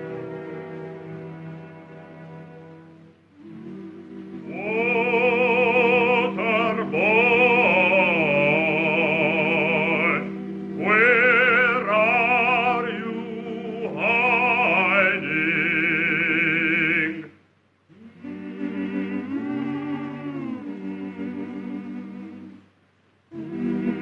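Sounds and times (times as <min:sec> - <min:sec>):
sustained musical accompaniment: 0:00.0 - 0:17.3, 0:17.9 - 0:22.7
operatic solo singing: 0:03.3 - 0:22.7, 0:23.3 - 0:24.0.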